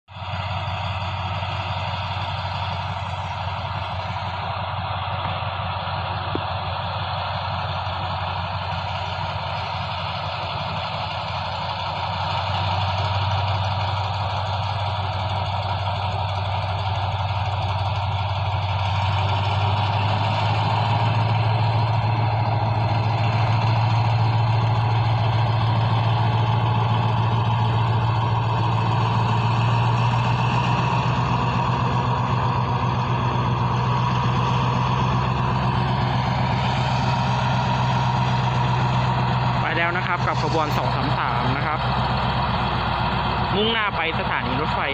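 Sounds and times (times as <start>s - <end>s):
diesel locomotive engine drone: 0.0s - 44.9s.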